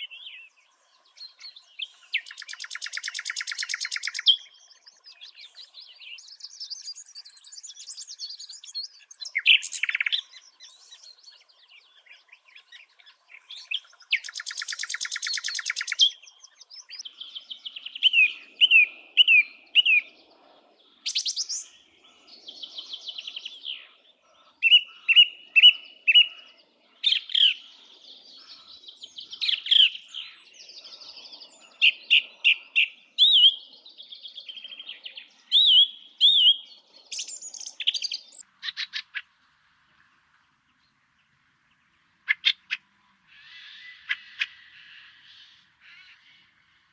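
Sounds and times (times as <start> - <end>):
bird chirps: 0.0 - 39.3, 40.7 - 46.9.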